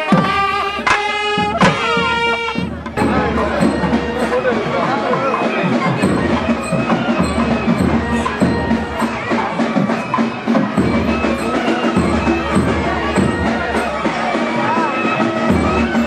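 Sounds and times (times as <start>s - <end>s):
drums beating steadily: 0.0s - 16.0s.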